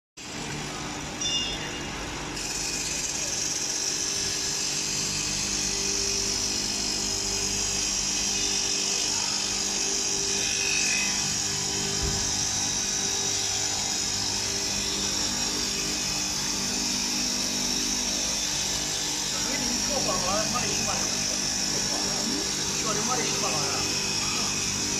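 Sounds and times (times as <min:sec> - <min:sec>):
glass grinding machine humming: 0:00.2 - 0:24.9.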